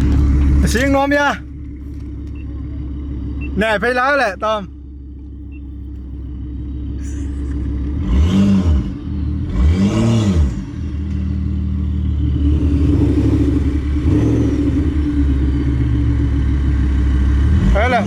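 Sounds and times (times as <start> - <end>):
car engine revving: 0.0 - 4.6, 5.8 - 18.0.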